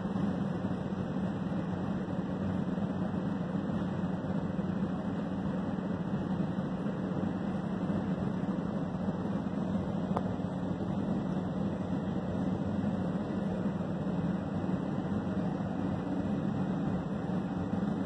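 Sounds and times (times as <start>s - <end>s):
low mechanical drone: 0.0s - 18.0s.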